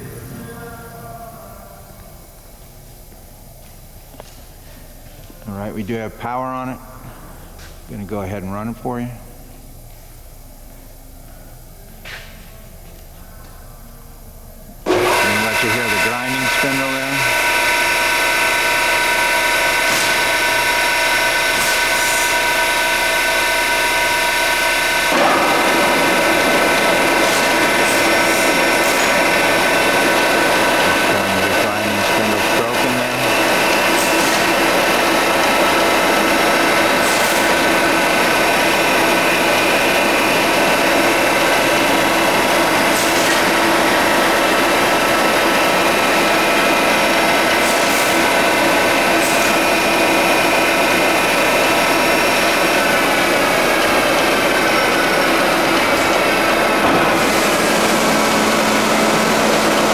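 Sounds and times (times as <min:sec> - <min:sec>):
grinding machine whine: 0:00.0 - 0:10.0, 0:14.3 - 0:59.9.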